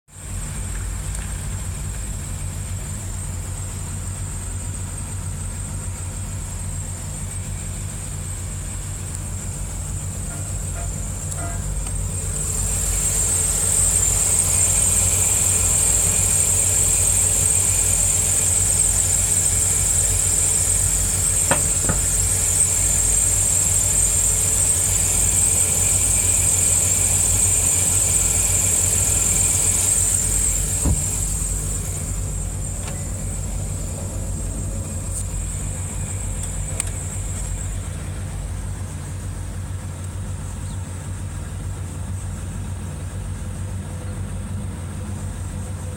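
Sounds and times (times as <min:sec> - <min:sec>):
car engine hum: 0:00.1 - 0:45.9
high-pitched exhaust whine: 0:00.1 - 0:45.9.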